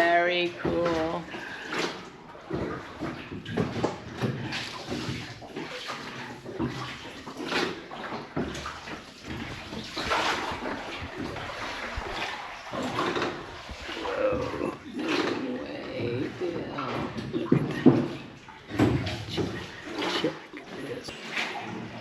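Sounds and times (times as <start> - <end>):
oars splashing in water: 0.0 - 22.0
water splashing around boat: 0.0 - 22.0.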